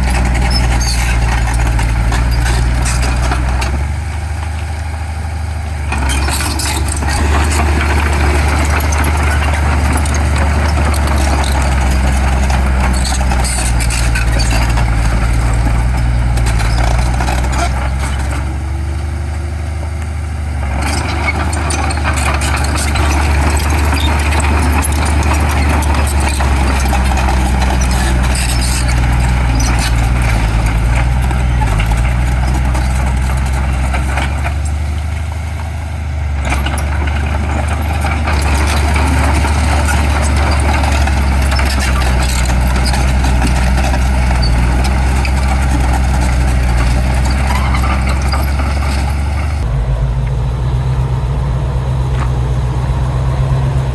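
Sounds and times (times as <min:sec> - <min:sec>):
heavy diesel engine working: 0:00.0 - 0:53.9.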